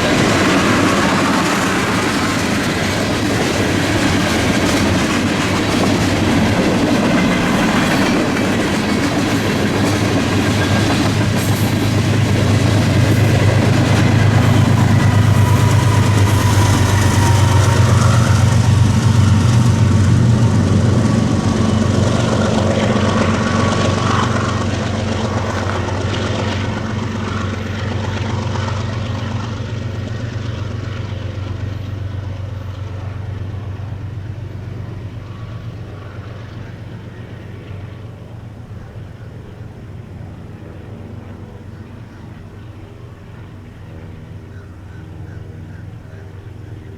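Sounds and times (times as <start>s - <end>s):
train wheels on rails: 0.0s - 40.5s
diesel locomotive engine drone: 0.0s - 46.9s.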